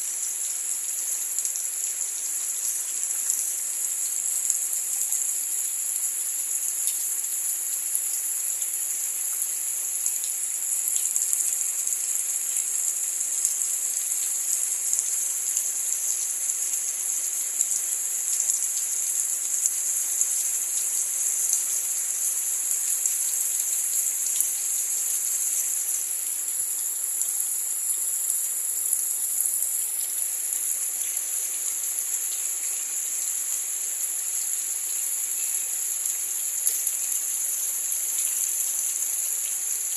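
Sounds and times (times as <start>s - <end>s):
high-pitched insect chorus: 0.1s - 39.9s.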